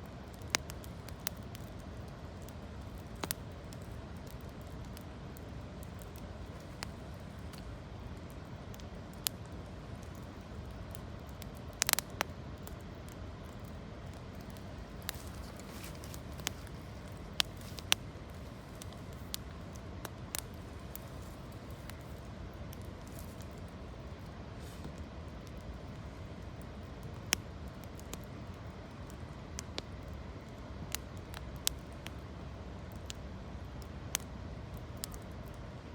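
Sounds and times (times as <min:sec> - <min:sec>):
campfire crackling and popping: 0:00.0 - 0:35.9
fire low rush: 0:00.1 - 0:35.3.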